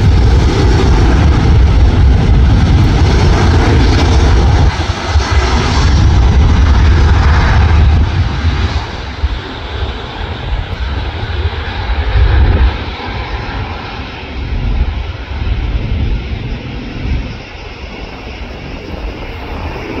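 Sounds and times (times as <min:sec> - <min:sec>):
jet engines at takeoff: 0:00.0 - 0:20.0.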